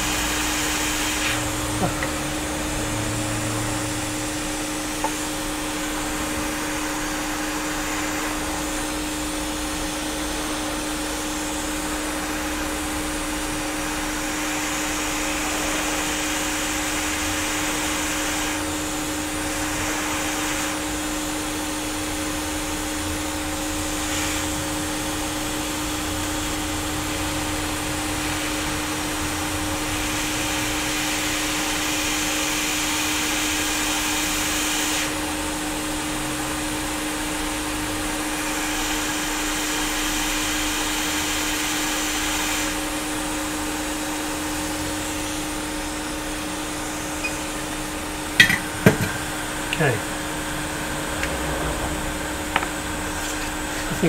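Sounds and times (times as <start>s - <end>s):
steady hum: 0.0s - 32.4s, 42.3s - 54.0s
hot air station hissing: 0.0s - 54.0s.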